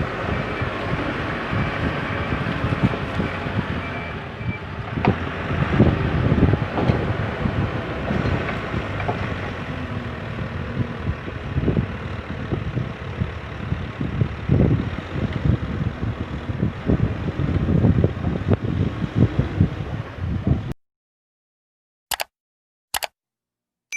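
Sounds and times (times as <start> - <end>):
diesel engine running: 0.0 - 20.7
wind buffeting microphone: 0.0 - 20.8.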